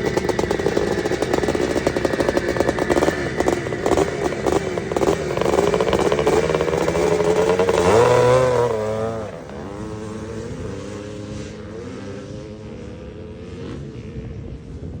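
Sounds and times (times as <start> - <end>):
two-stroke dirt bike revving: 0.0 - 14.5.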